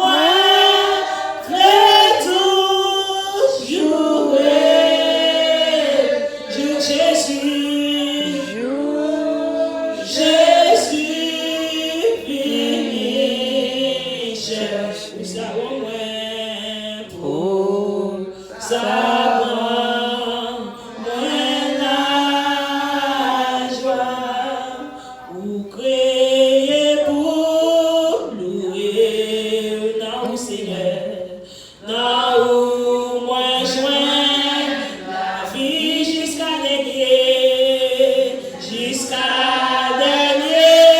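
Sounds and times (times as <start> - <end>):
congregation singing: 0.0 - 40.9.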